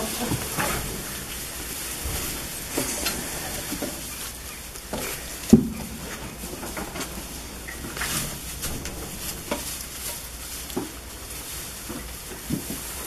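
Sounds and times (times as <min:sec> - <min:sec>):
hay and straw rustling: 0:00.0 - 0:13.0.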